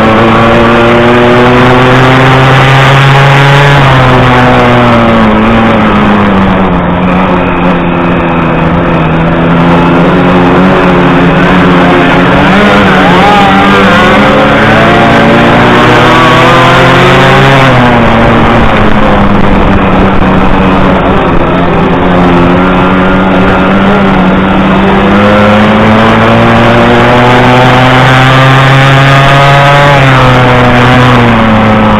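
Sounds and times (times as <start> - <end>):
moped engine at high revs: 0.0 - 31.9
second moped engine: 0.0 - 31.9.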